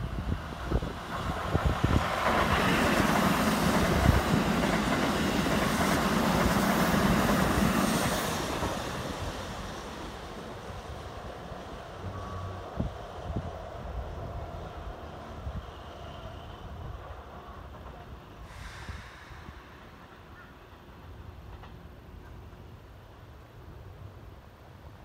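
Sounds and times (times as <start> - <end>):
electric train passing: 0.0 - 24.8.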